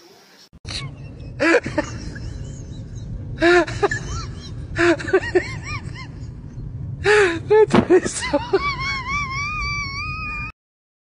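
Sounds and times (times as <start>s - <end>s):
steady low hum: 0.7s - 10.5s.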